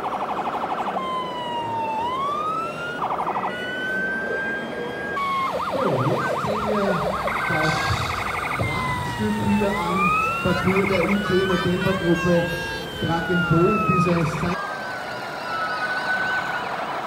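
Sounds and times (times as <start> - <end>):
electronic siren: 0.0 - 17.0.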